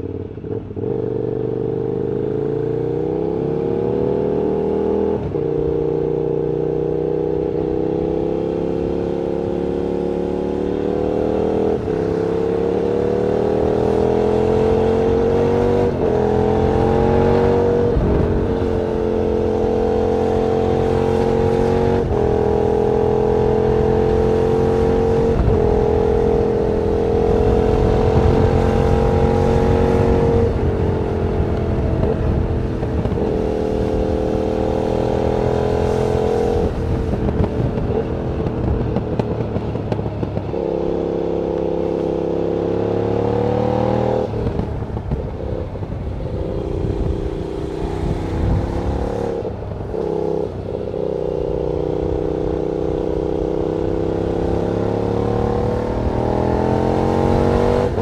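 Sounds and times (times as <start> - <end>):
motorcycle engine revving: 0.0 - 58.0
wind rushing across microphone: 6.9 - 58.0.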